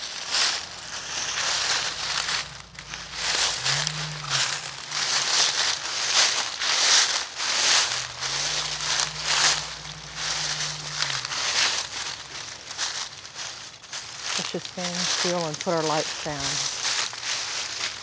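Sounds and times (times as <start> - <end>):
footsteps crunching through dry leaves: 0.0 - 18.0.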